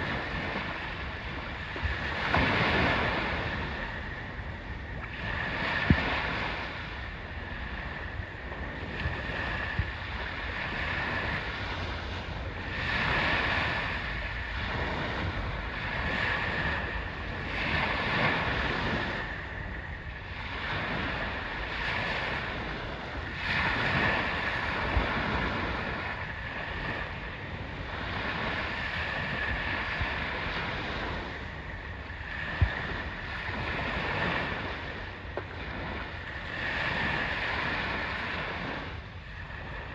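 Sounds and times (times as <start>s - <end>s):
surf washing on shore: 0.0s - 39.9s
wind buffeting microphone: 0.0s - 39.9s.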